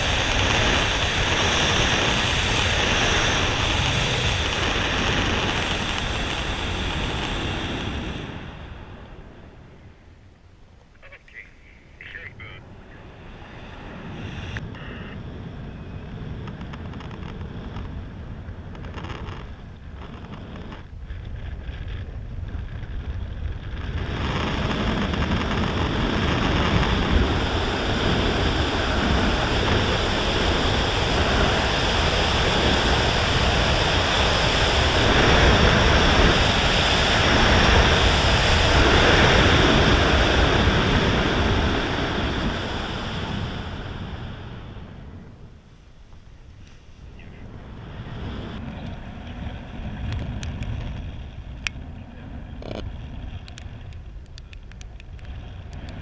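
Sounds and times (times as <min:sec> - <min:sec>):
wind rushing over microphone: 0:00.0 - 0:10.5, 0:11.1 - 0:56.0.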